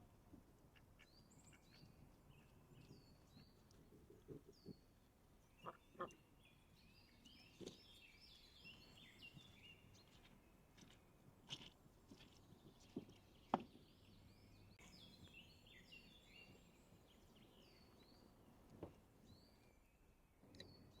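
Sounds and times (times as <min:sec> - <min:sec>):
small birds chirping: 0:00.7 - 0:21.0.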